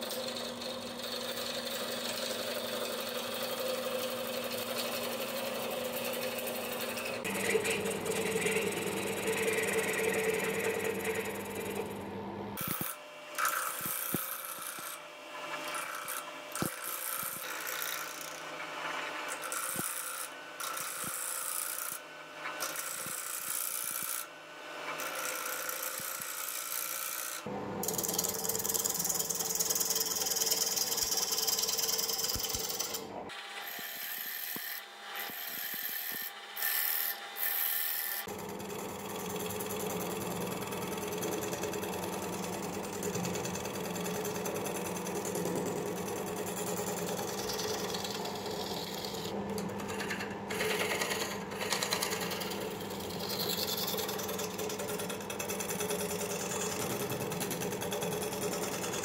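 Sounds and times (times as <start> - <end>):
wood lathe motor hum: 0.0 - 59.0.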